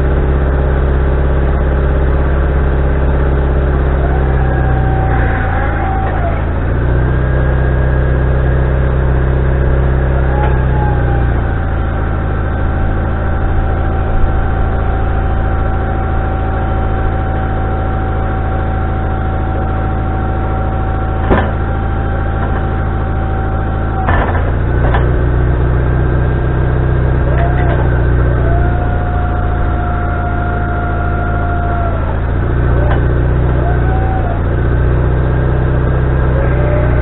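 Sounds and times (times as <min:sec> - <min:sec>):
sawmill engine running: 0:00.0 - 0:37.0
steady whine: 0:00.0 - 0:37.0.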